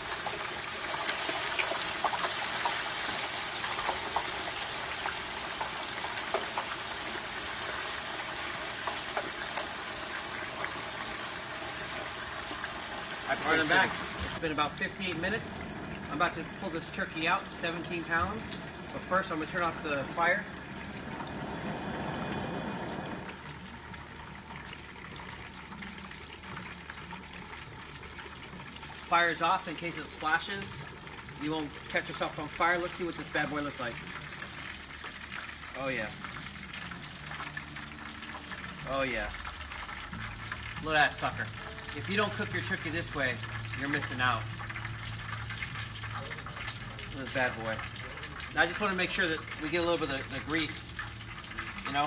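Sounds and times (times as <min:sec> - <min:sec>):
hot oil hissing and bubbling: 0:00.0 - 0:52.0.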